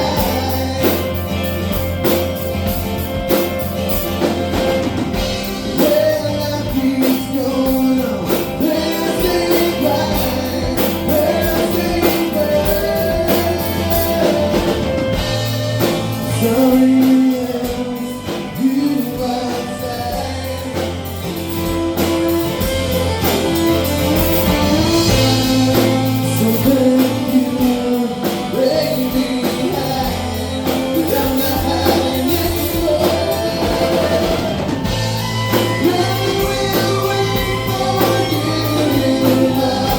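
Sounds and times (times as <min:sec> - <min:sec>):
lead singer: 0:00.0 - 0:39.9
live rock band playing: 0:00.0 - 0:39.9.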